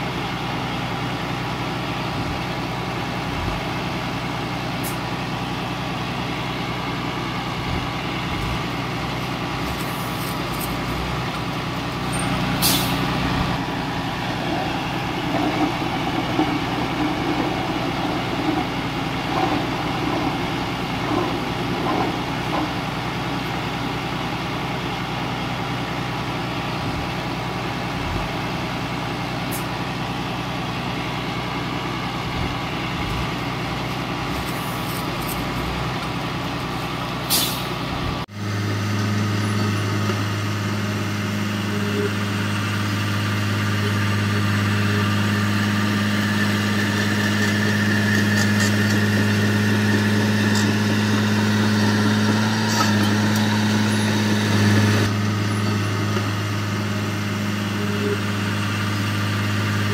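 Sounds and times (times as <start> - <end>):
diesel engines running: 0.0 - 59.9
engine drone with low hum: 0.0 - 59.9.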